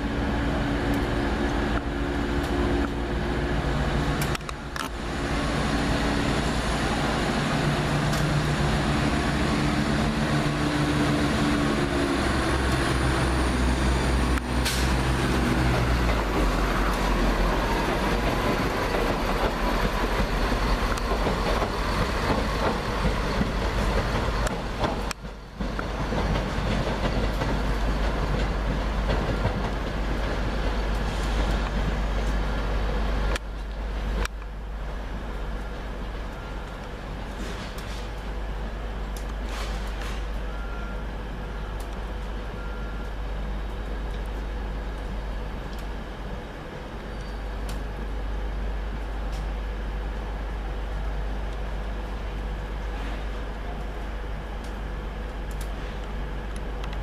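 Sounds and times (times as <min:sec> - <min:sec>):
train diesel engines humming: 0:00.0 - 0:57.0
train rolling past: 0:00.0 - 0:57.0.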